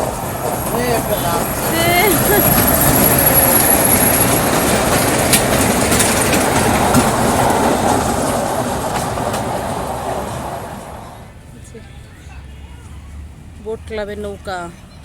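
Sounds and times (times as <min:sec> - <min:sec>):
ride train clattering on track: 0:00.0 - 0:15.0
track clacks: 0:00.0 - 0:15.0.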